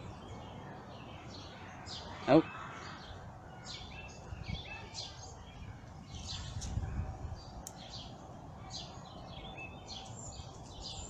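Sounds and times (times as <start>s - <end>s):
birds chirping: 0.0s - 11.0s
soft outdoor background: 0.0s - 11.0s.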